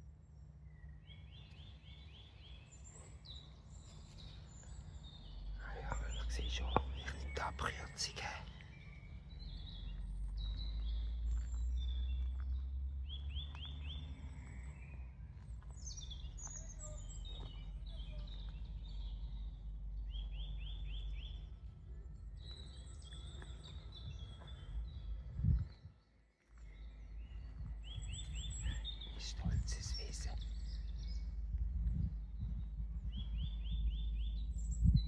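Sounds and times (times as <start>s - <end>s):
low microphone rumble: 0.0s - 35.0s
songbirds chirping and singing: 0.0s - 35.0s.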